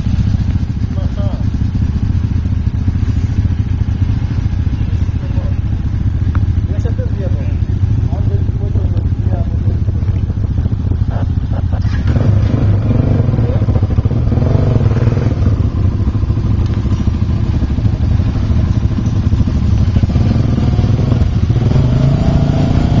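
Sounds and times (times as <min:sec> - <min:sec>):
atv engines running: 0:00.0 - 0:23.0.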